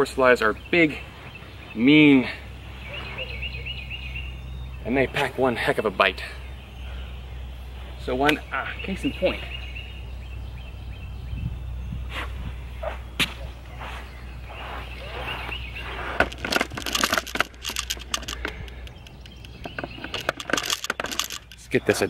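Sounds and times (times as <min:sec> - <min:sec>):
low steady rumble: 0:00.0 - 0:21.9.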